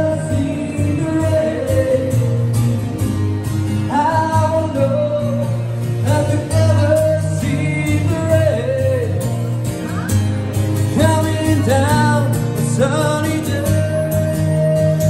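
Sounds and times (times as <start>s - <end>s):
man singing: 0.0s - 2.6s, 3.8s - 9.5s, 10.9s - 15.0s
strummed acoustic guitar: 0.0s - 15.0s.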